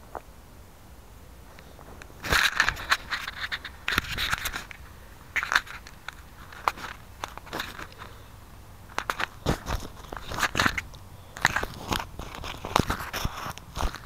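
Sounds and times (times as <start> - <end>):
handling noise on microphone: 1.4 - 14.0.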